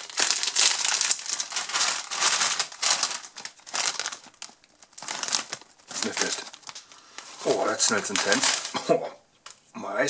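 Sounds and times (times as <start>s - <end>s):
plastic snack bag crinkling: 0.0s - 8.8s.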